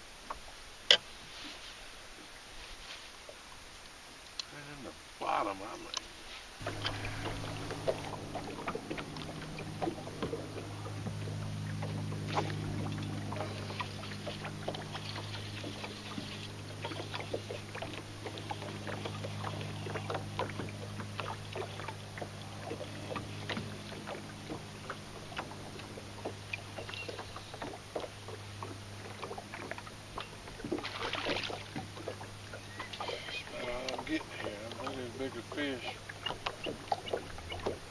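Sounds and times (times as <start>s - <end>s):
water slapping against boat hull: 5.9s - 37.9s
fish splashing: 6.1s - 37.9s
electric trolling motor humming: 6.6s - 37.9s.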